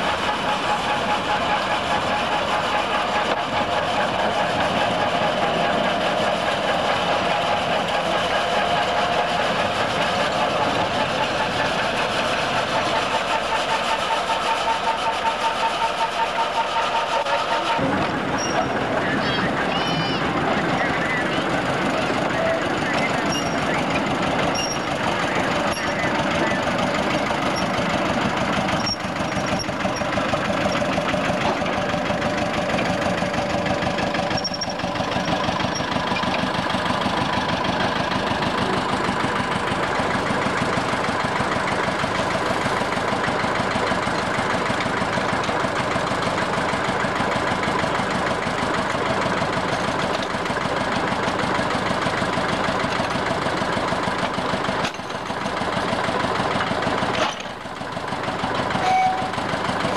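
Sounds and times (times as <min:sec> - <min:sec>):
locomotive engine running: 0:00.0 - 0:59.9.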